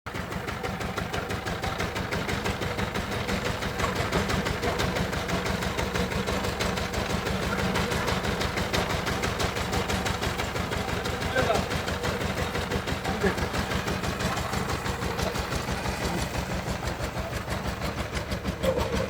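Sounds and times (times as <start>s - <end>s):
diesel engine running: 0.1s - 19.0s.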